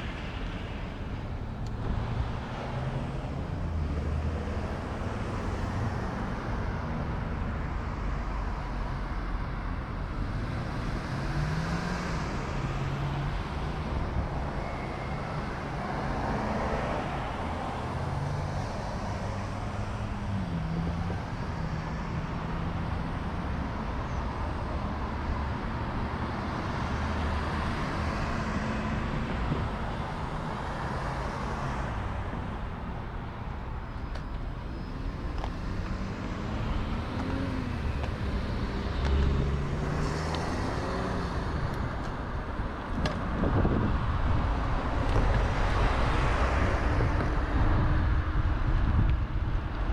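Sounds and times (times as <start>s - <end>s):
car engines passing: 0.0s - 49.9s
road noise rushing: 0.0s - 49.9s.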